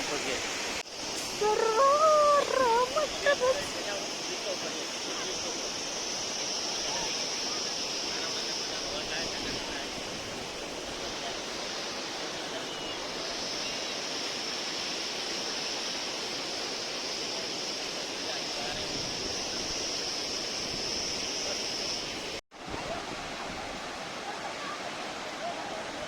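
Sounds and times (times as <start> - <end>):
rush of falling water: 0.0 - 26.0.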